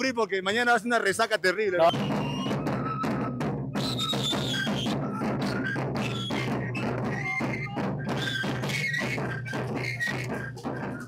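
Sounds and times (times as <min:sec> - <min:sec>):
large drums beaten: 0:01.9 - 0:11.0
wooden flutes playing melody: 0:01.9 - 0:11.0.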